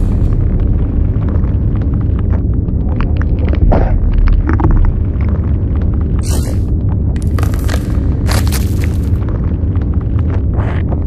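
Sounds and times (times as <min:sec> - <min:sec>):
crackles and clicks: 0:00.0 - 0:11.0
deep steady rumble: 0:00.0 - 0:11.0.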